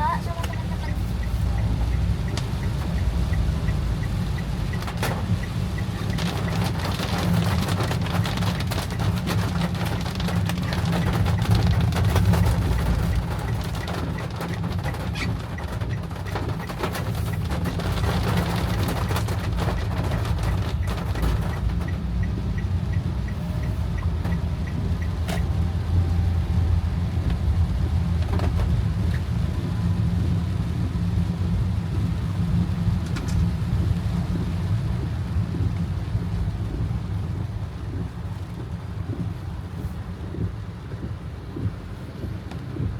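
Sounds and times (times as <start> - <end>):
car engine and road rumble: 0.0 - 42.9
faint light ticking: 0.0 - 42.9
rain hiss: 0.0 - 42.9
rain pattering on car: 0.0 - 42.9.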